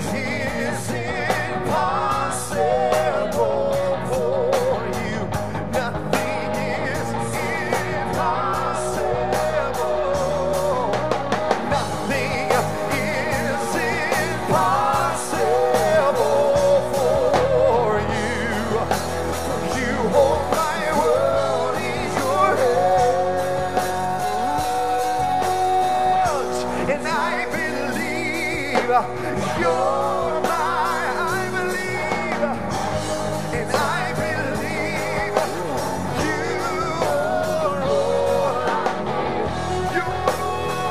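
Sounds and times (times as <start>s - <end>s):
live band with electric guitars: 0.0s - 40.9s
man and woman singing: 0.0s - 40.9s.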